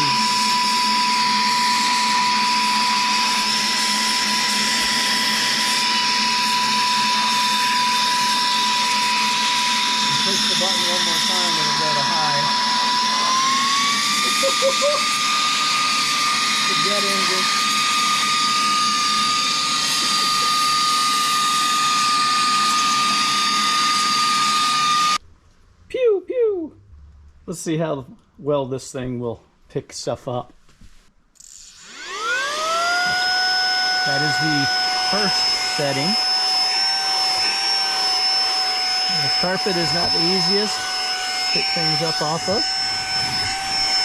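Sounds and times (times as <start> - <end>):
handheld vacuum motor whining: 0.0 - 25.2, 31.4 - 44.0.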